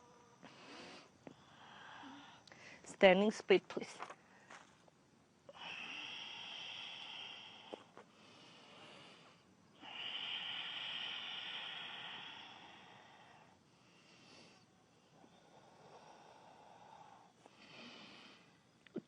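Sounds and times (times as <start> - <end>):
person breathing deeply: 0.5 - 2.8, 5.5 - 18.6.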